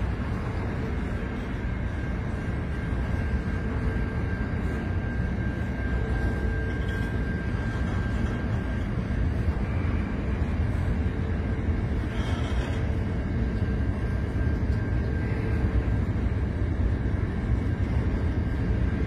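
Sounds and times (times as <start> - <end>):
faint high whine: 0.0 - 19.0
train wheels rumbling on rails: 0.0 - 19.0.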